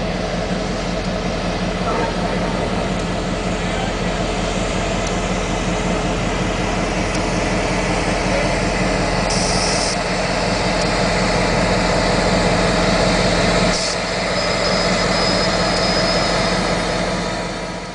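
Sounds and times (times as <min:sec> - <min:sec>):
diesel locomotive engine running: 0:00.0 - 0:17.9.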